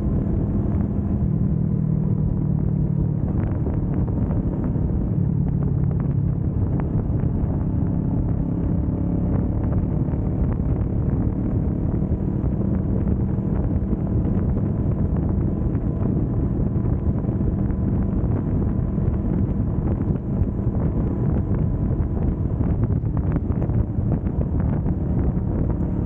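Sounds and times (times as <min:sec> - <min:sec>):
motorcycle engine cruising: 0:00.0 - 0:26.0
road and wind noise: 0:00.0 - 0:26.0.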